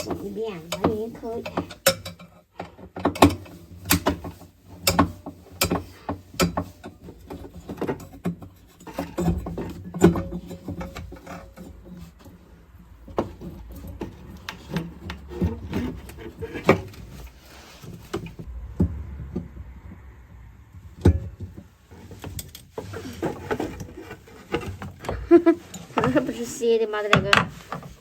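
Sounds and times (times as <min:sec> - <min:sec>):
knocks and scraping of parts: 0:00.0 - 0:28.0.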